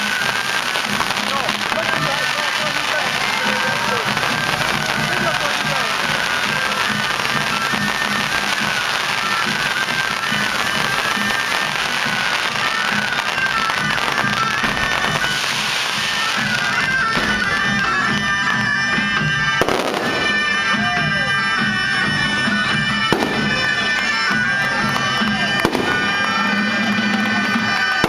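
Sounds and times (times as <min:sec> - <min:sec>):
fireworks bursting: 0:00.0 - 0:28.0
music with held notes and drone: 0:00.0 - 0:28.0
sharp bangs: 0:00.0 - 0:28.0.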